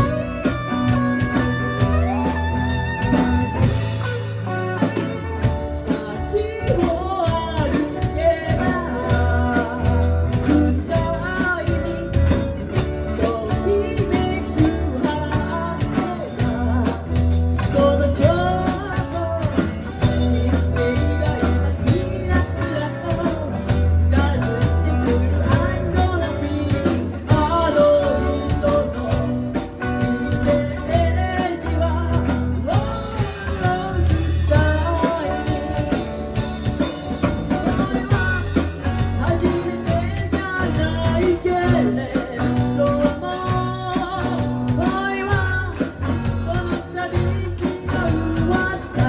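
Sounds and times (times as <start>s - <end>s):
bass guitar: 0.0s - 49.0s
drum kit: 0.0s - 49.0s
electric guitar: 0.0s - 49.0s
person singing: 0.0s - 49.0s.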